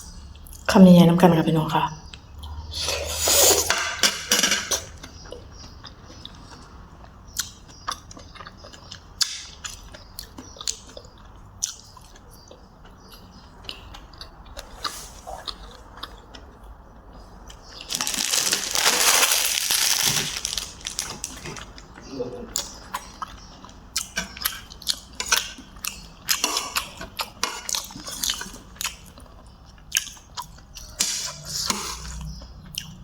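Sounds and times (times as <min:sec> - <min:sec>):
chewing and crunching food: 0:04.7 - 0:33.0.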